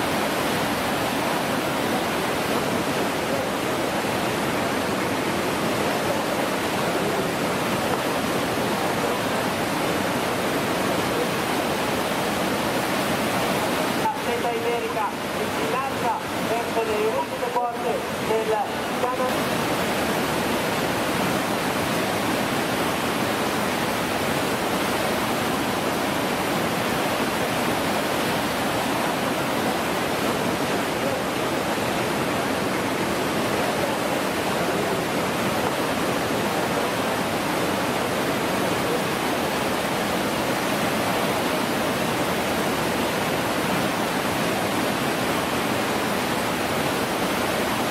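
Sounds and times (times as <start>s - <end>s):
whitewater rapids rushing: 0.0s - 47.9s.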